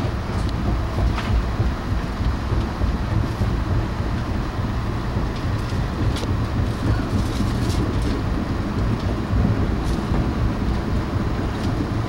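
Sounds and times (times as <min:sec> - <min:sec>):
train rumbling from inside coach: 0:00.0 - 0:12.0.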